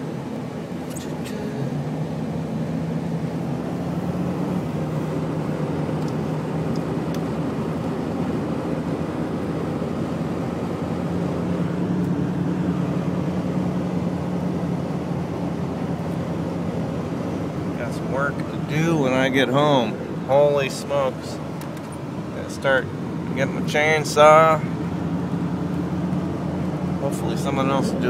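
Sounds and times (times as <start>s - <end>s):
car engine running: 0.0s - 28.0s
road noise: 0.0s - 28.0s.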